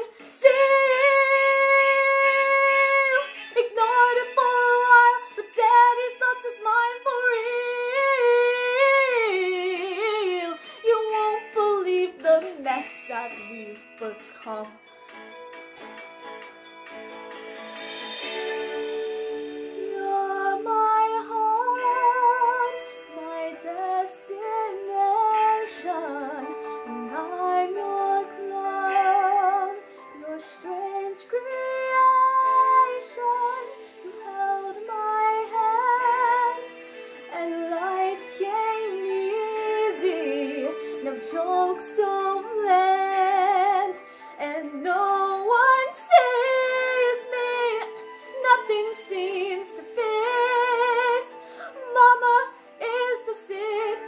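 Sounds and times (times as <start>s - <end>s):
woman singing with vibrato: 0.0s - 14.8s, 19.6s - 54.0s
musical accompaniment: 0.0s - 54.0s.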